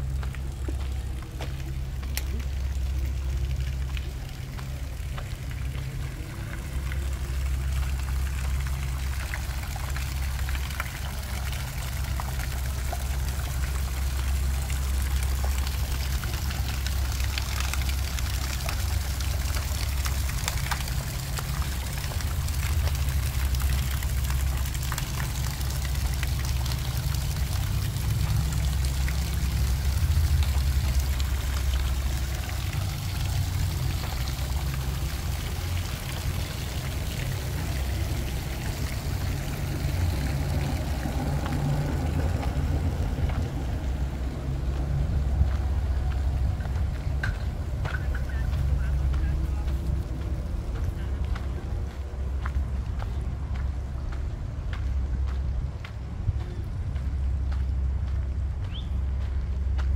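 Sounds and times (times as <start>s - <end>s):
fountain water splashing: 0.0s - 59.9s
steady low rumble: 0.0s - 59.9s.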